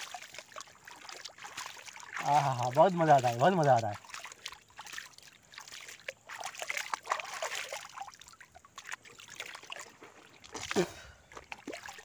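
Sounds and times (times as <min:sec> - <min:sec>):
water drips and plops: 0:00.0 - 0:12.0
water splashing by hand: 0:00.0 - 0:12.0.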